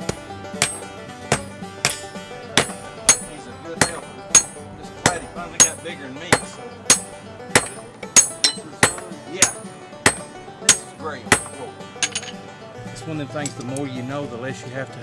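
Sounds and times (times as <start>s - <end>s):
hammer striking hot iron on anvil: 0.0s - 12.4s.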